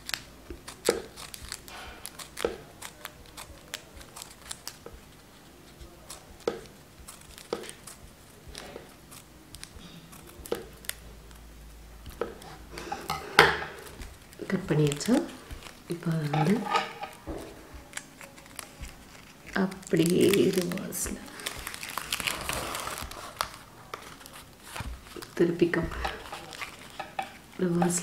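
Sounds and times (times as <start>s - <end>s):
scissors snipping paper: 0.0s - 11.4s, 12.0s - 28.0s.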